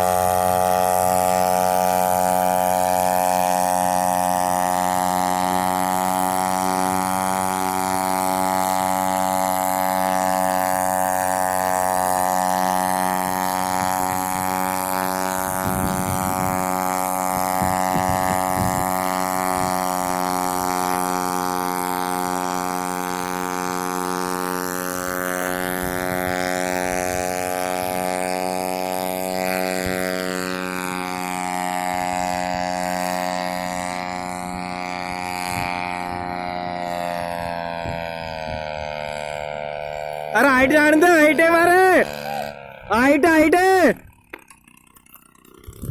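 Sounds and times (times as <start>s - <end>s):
paramotor engine driving propeller: 0.0s - 45.9s.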